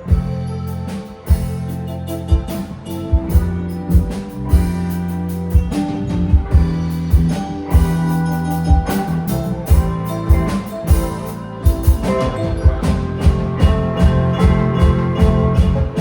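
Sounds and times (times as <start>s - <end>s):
bass guitar: 0.0s - 16.0s
drum kit: 0.0s - 16.0s
electric guitars: 0.0s - 16.0s
keyboard: 0.0s - 16.0s.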